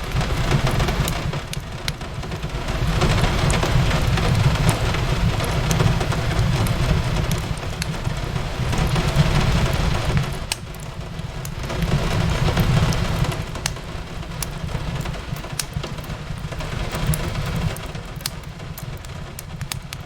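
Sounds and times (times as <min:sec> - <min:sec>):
rain on a window: 0:00.0 - 0:20.0
wood fire crackling: 0:00.0 - 0:20.0.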